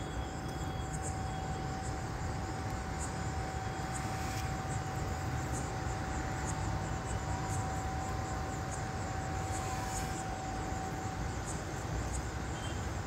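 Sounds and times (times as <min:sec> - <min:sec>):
faint thin whine: 0:00.0 - 0:13.0.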